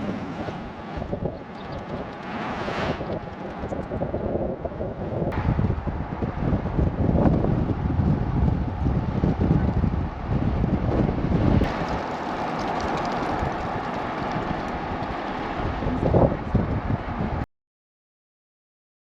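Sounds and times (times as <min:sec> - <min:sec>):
wind buffeting microphone: 0:00.0 - 0:17.4
vehicle noise: 0:00.0 - 0:17.5.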